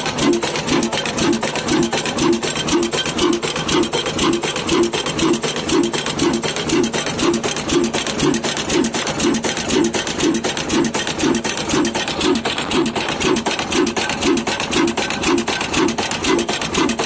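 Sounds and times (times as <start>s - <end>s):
flour mill grinding rasp: 0.0s - 17.0s
stationary diesel engine running: 0.0s - 17.0s.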